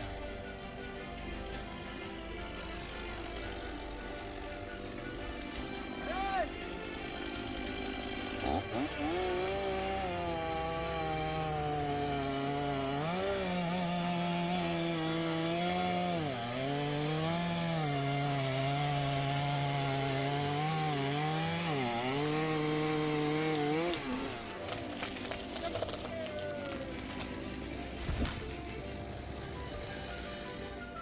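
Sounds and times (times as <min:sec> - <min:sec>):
chainsaw cutting wood: 0:01.4 - 0:31.0.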